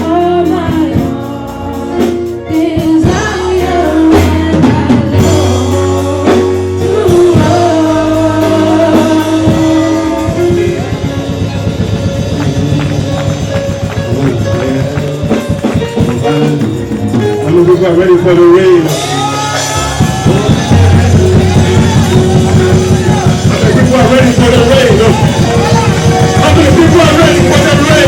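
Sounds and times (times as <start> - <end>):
people singing: 0.0 - 13.5, 18.9 - 28.0
drums bass and guitar: 0.0 - 28.0.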